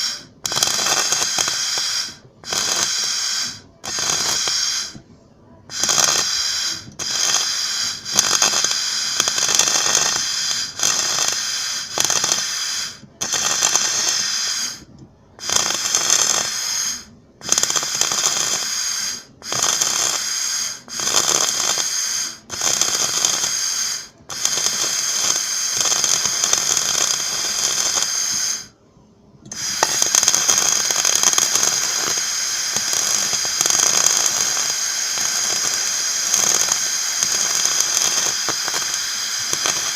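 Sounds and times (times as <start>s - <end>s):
welding arc crackling: 0.0s - 5.0s, 5.7s - 28.7s, 29.5s - 39.9s.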